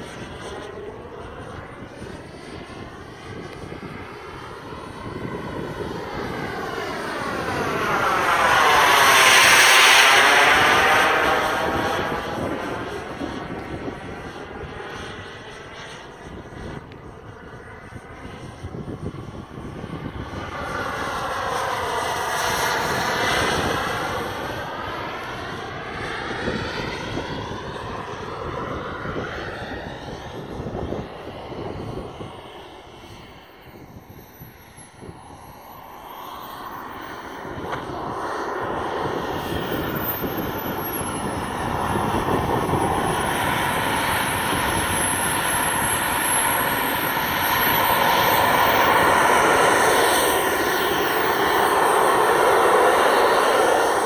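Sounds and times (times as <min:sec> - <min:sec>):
model jet engine whine: 0:00.0 - 0:54.0.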